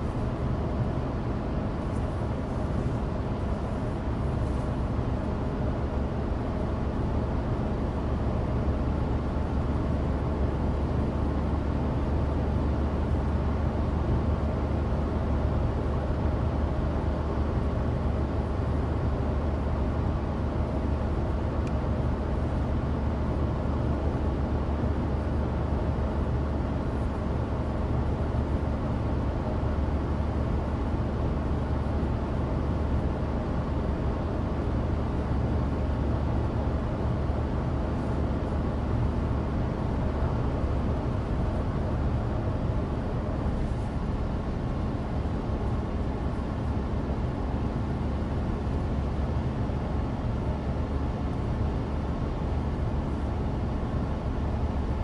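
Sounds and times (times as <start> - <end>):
car cabin engine drone: 0.0 - 55.0.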